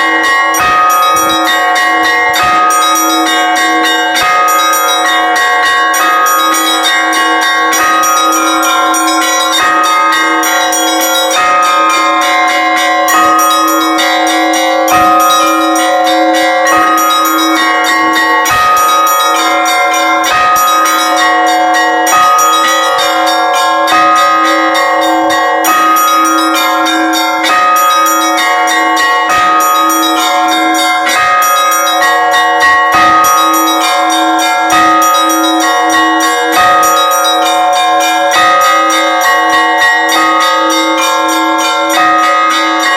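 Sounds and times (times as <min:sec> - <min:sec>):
large bell ringing: 0:00.0 - 0:42.9
small church bells striking: 0:00.0 - 0:42.9.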